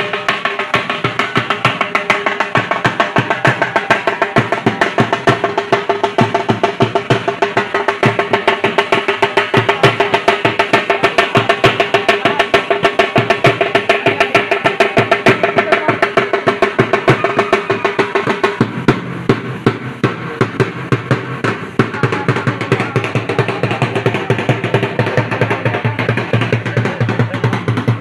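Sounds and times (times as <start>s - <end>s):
held melodic tone: 0.0s - 27.7s
fast drum beats: 0.0s - 28.0s.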